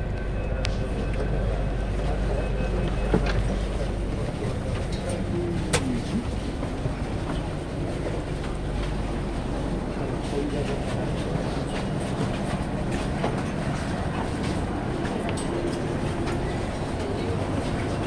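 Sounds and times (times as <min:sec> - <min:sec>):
metro train low rumble: 0:00.0 - 0:18.0.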